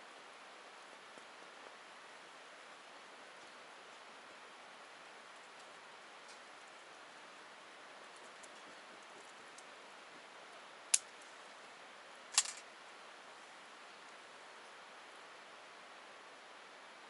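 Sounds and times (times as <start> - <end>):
campfire crackling: 0.5 - 14.2.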